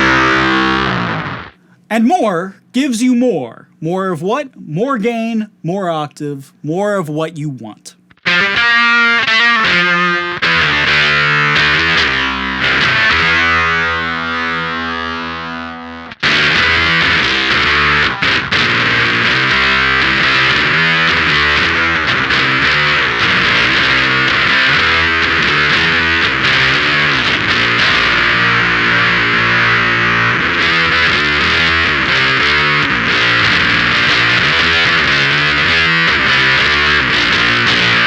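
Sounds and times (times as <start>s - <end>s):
fuzzed electric guitar: 0.0s - 1.8s, 8.1s - 38.0s.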